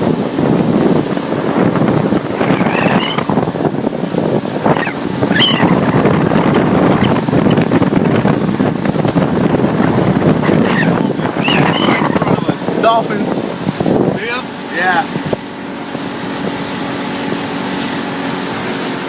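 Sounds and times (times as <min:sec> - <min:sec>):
water washing around boat: 0:00.0 - 0:19.0
wind buffeting microphone: 0:00.0 - 0:19.0.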